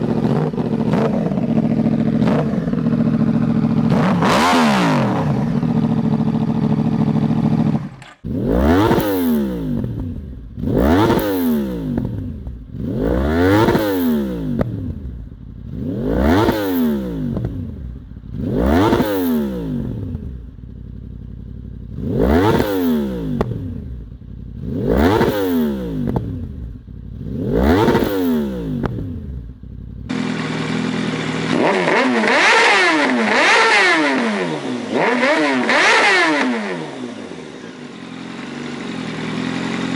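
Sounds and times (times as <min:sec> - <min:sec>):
sport bike engine revving: 0:00.0 - 0:39.9.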